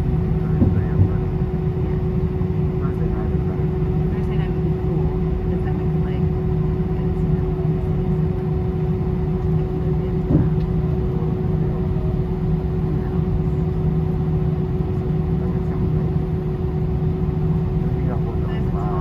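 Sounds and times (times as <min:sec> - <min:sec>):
airliner cabin rumble and hum: 0:00.0 - 0:19.0.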